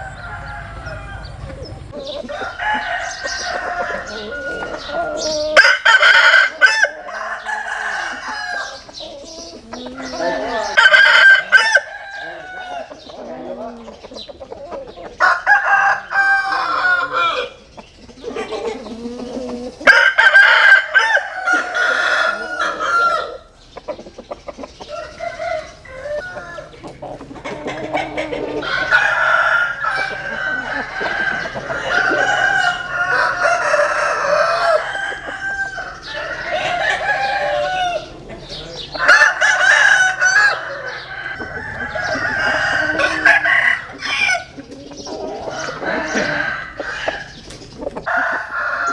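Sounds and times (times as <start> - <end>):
roosters crowing: 0.0 - 48.9.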